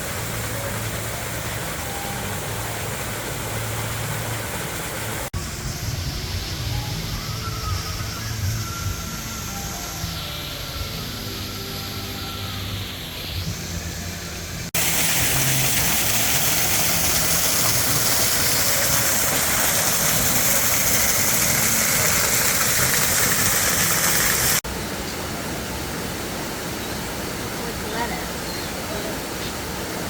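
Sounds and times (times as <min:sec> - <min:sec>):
loud rushing water: 0:00.0 - 0:30.0.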